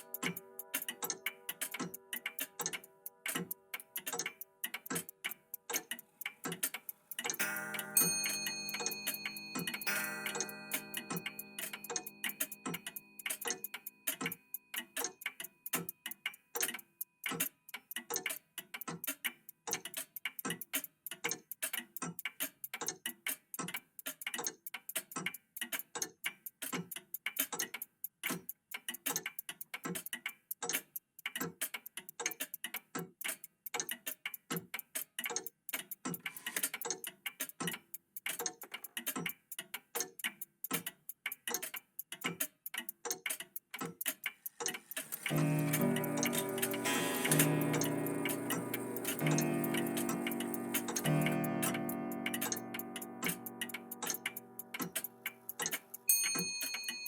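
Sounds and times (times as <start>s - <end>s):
clocks ticking: 0.0s - 57.0s.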